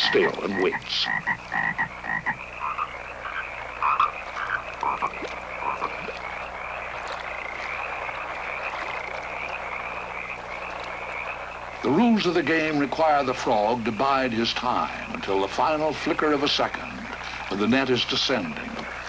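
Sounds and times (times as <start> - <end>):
frog croaks: 0.0 - 19.0
high-pitched frog chorus: 0.0 - 19.0.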